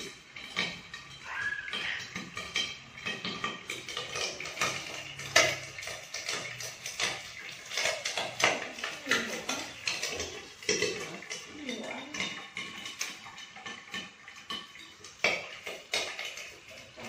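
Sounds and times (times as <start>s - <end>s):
pan lids clinking and clattering: 0.0s - 17.0s.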